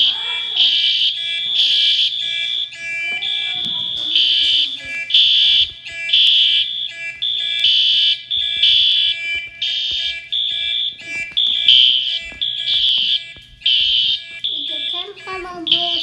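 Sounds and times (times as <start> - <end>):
fire alarm pulsing tone: 0.0 - 16.0.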